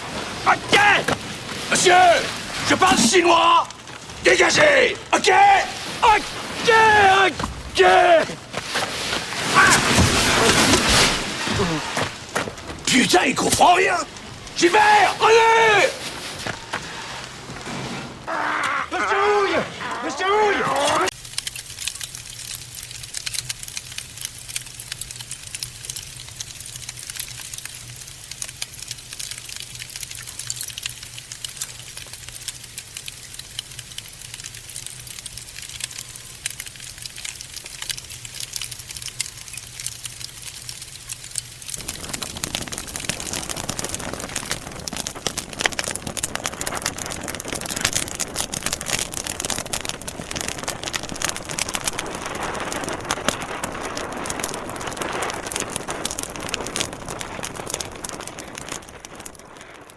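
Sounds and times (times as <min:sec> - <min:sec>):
logs crackling and popping in fire: 0:00.0 - 0:59.9.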